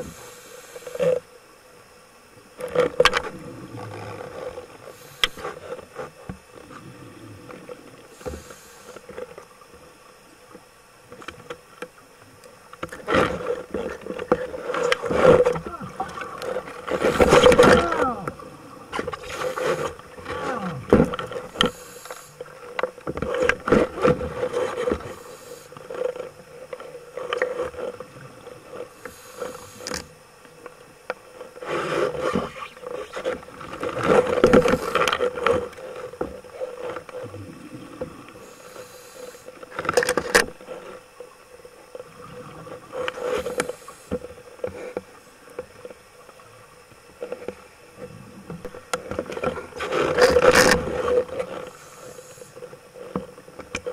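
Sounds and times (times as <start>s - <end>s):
boat motors heard underwater: 0.0s - 53.9s.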